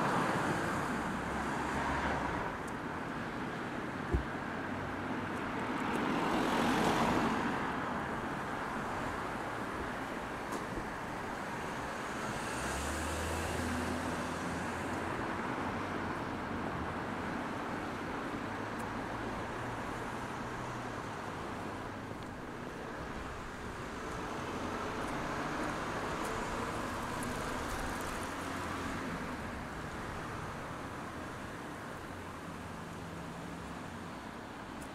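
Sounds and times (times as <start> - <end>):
cars passing by: 0.0 - 34.9.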